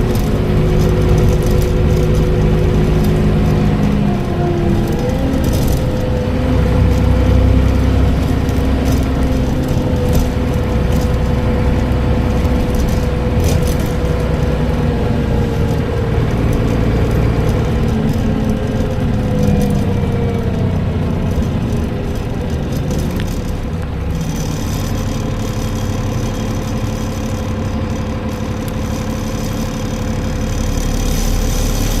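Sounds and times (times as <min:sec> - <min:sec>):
bus engine running: 0:00.0 - 0:32.0
gearbox whine: 0:00.0 - 0:32.0
light rattles: 0:00.0 - 0:32.0.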